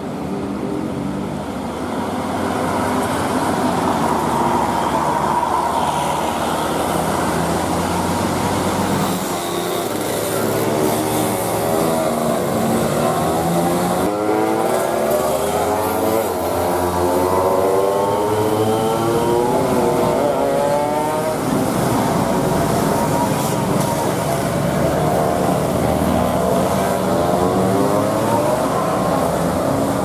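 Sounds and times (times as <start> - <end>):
bus engines revving: 0.0 - 30.0.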